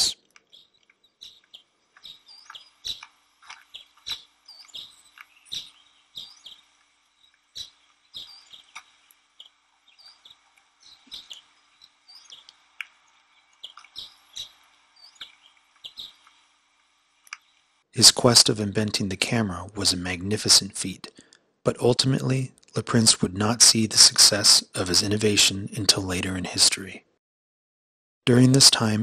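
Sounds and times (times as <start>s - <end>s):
birds chirping: 0.0s - 26.9s, 28.3s - 29.0s
faint low hum: 0.0s - 27.0s.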